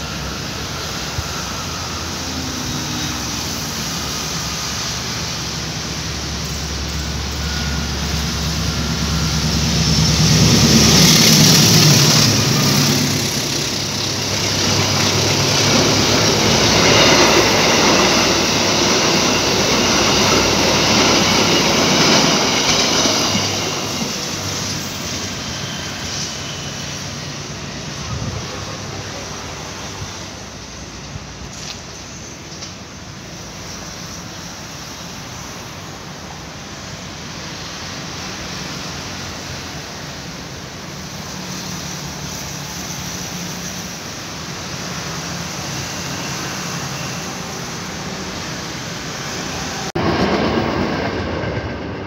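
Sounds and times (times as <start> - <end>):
locomotive engine drone: 0.0 - 52.0
train wheels rumbling on rails: 0.0 - 52.0.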